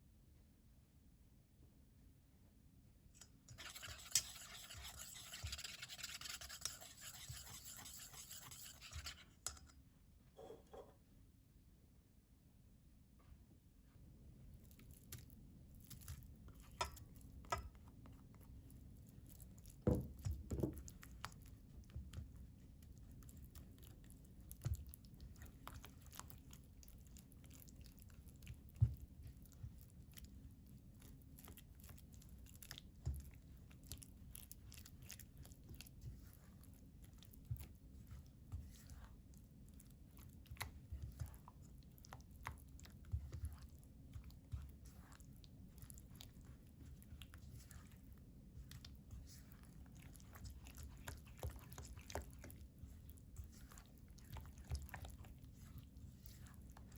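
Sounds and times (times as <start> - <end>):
utensil squishing sticky batter: 3.1 - 9.9, 14.3 - 56.9.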